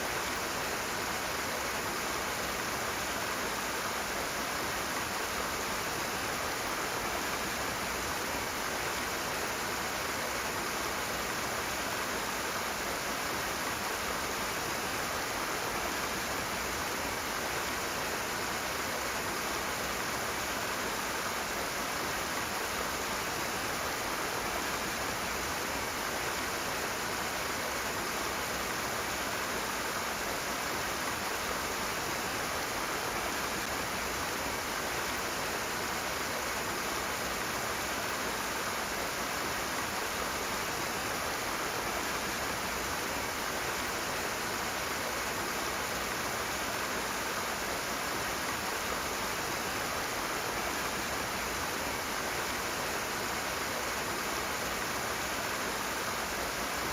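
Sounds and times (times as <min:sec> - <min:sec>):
fast-flowing water rushing: 0:00.0 - 0:56.9.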